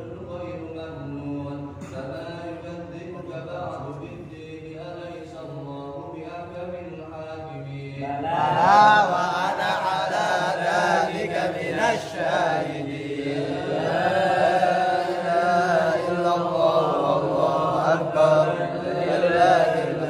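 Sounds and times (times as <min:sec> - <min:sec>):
man chanting recitation: 0:00.0 - 0:20.0.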